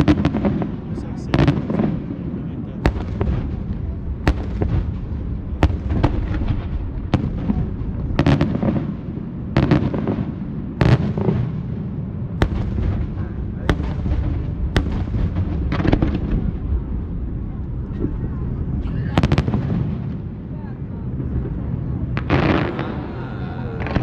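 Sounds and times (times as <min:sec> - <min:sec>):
fireworks bangs: 0:00.0 - 0:24.0
low rumble of explosions: 0:00.0 - 0:24.0.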